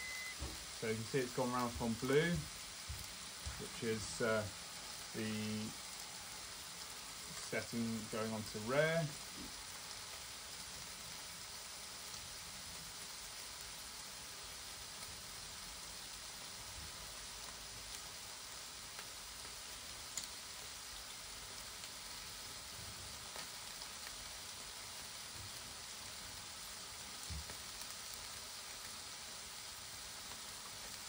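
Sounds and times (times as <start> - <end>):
faint crackles: 0.0 - 15.2, 15.8 - 31.0
lamb chops sizzling in a grill: 0.0 - 31.0.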